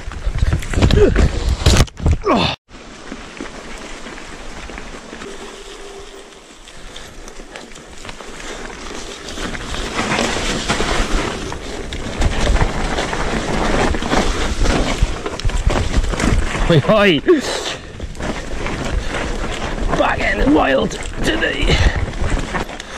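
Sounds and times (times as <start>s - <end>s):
bike tyres over leaves and stones: 0.0s - 22.9s
bike rattling over bumps: 2.8s - 22.9s.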